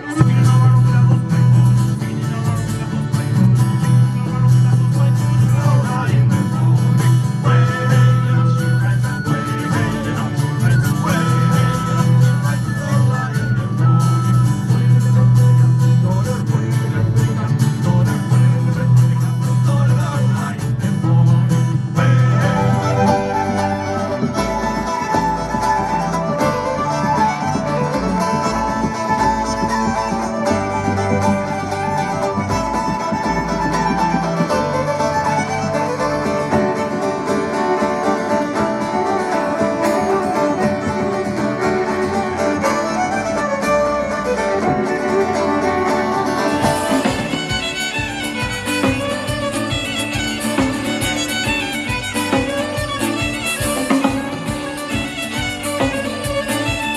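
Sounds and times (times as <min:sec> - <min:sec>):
fiddle playing folk tune: 0:00.0 - 0:56.9
guitar: 0:00.0 - 0:56.9.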